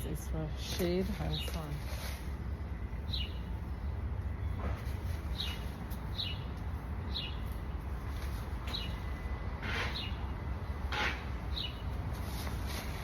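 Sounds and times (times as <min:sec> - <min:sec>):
songbird chirping: 0:00.0 - 0:10.8, 0:11.4 - 0:12.4
steady low rumble: 0:00.0 - 0:13.0.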